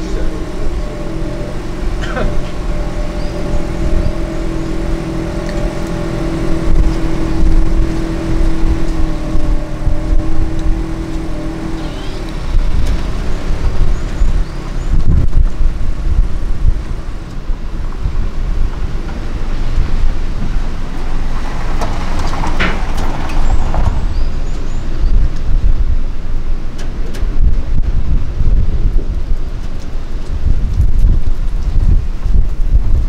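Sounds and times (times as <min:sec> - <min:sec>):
engine humming close by: 0:00.0 - 0:33.0
traffic rumble: 0:00.0 - 0:33.0.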